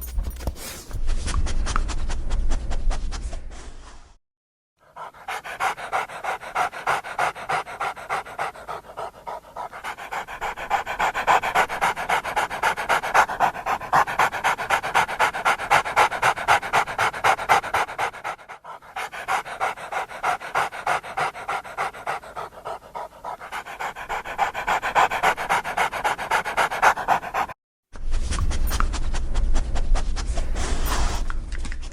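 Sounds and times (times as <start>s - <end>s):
dog panting: 4.8s - 31.3s.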